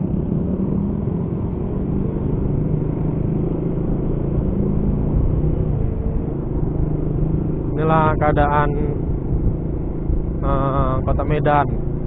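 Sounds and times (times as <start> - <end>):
motorcycle engine cruising: 0.0 - 12.0
road and wind rumble: 0.0 - 12.0.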